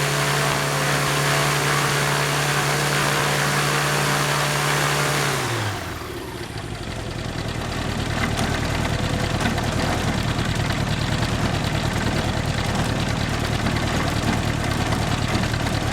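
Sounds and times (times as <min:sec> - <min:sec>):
propeller engine idling: 0:00.0 - 0:15.9.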